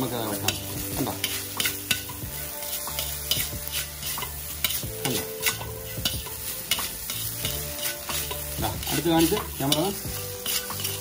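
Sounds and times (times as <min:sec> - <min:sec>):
rice sizzling in a pan: 0:00.0 - 0:11.0
utensil scraping and tapping pan: 0:00.2 - 0:11.0.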